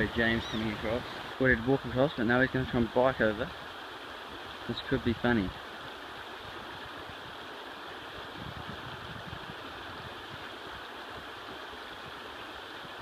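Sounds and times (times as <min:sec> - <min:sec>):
river rushing over shingle: 0:00.0 - 0:13.0.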